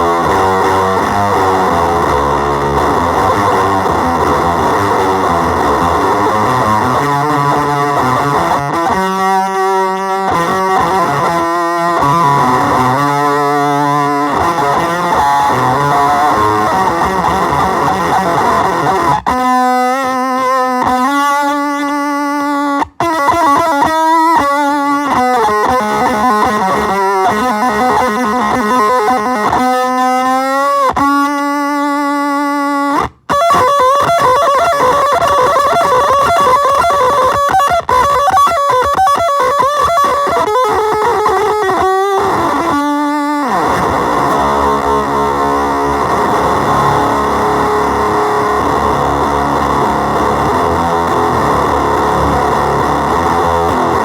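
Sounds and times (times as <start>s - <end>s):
electric guitar with effects pedal: 0.0s - 54.0s.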